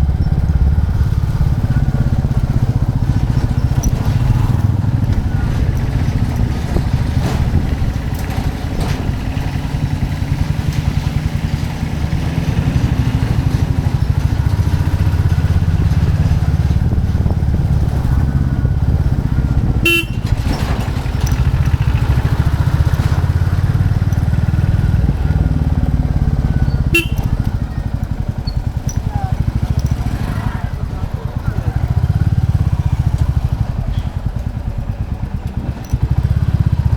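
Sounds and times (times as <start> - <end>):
motorcycle engine thumping: 0.0 - 36.9.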